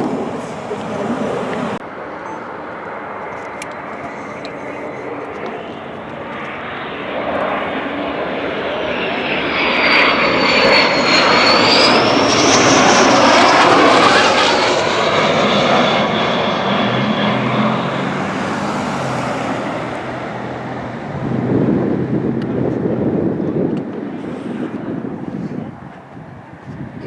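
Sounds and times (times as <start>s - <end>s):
high engine whine: 0.0s - 26.9s
airplane flying past: 0.0s - 27.0s.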